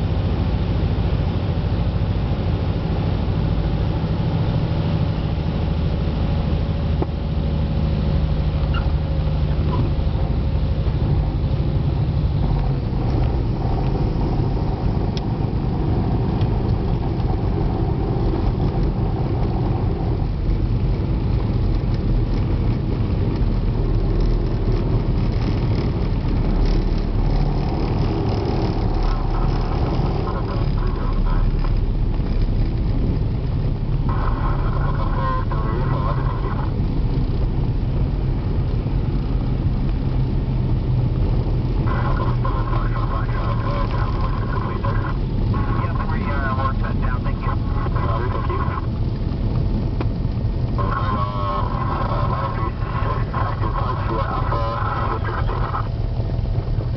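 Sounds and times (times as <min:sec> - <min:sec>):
airplane engine and propeller: 0:00.0 - 0:56.9.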